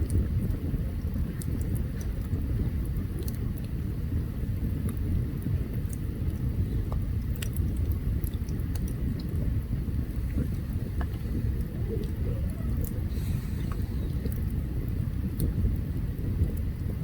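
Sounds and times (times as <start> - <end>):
crackles and pops of burning wood: 0.0 - 17.0
low fire rumble: 0.0 - 17.0.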